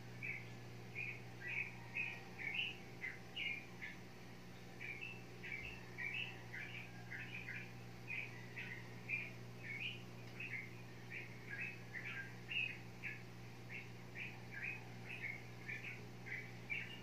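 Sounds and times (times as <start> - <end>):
faint steady low hum: 0.0 - 17.0
small bird chirping: 0.1 - 17.0.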